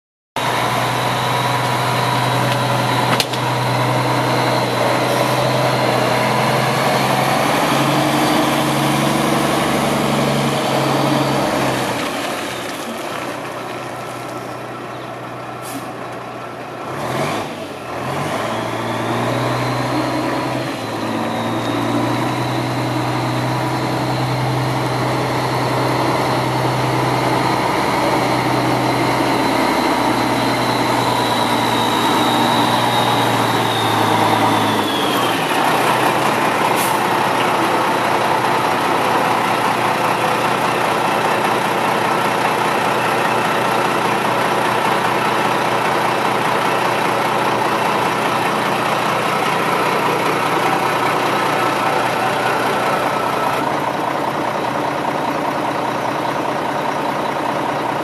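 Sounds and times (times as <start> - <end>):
diesel truck driving by: 0.4 - 58.0.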